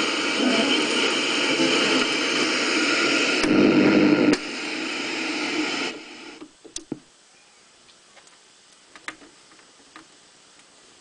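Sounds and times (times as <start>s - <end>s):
radio speaker hiss: 0.0s - 11.0s.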